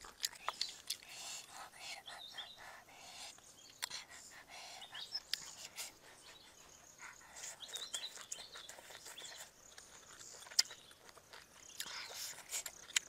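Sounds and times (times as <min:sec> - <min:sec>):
food being handled and eaten: 0:00.0 - 0:13.0
birds chirping: 0:00.2 - 0:13.0.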